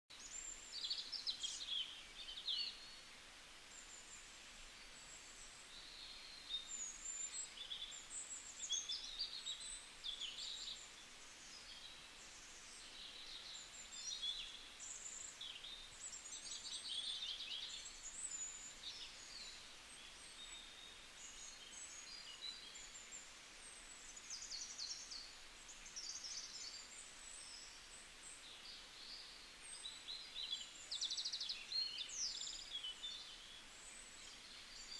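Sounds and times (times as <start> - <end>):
small birds chirping and twittering: 0.1 - 34.9.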